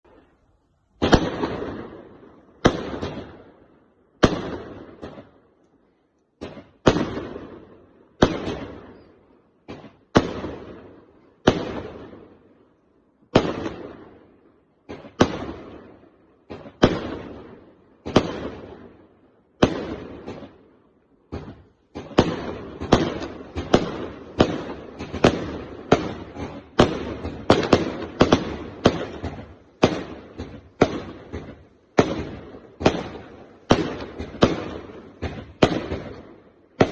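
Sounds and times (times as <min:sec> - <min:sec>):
fireworks bursting: 0:00.0 - 0:05.4, 0:06.4 - 0:12.4, 0:14.9 - 0:20.7, 0:21.3 - 0:36.9.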